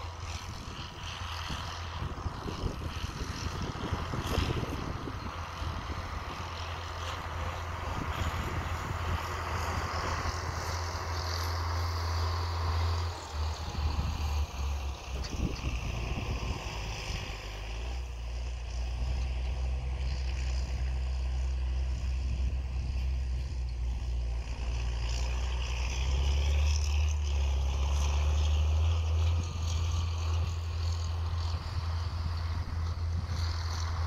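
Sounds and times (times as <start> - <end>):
distant tractor rumble: 0.0 - 34.0.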